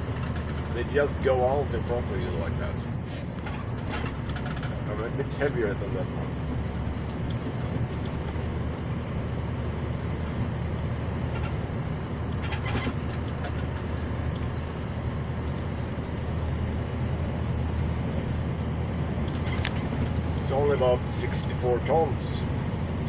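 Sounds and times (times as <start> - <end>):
road noise: 0.0 - 23.0
truck diesel engine drone: 0.0 - 23.0.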